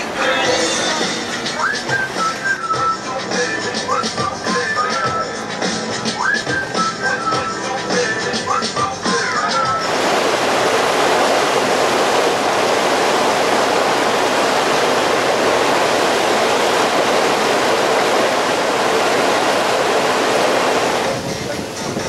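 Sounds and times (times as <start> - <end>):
boat wake water rushing: 0.0 - 22.0.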